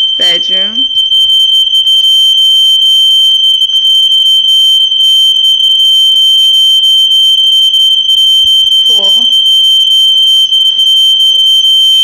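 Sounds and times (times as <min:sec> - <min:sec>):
house alarm high-pitched tone: 0:00.0 - 0:12.0.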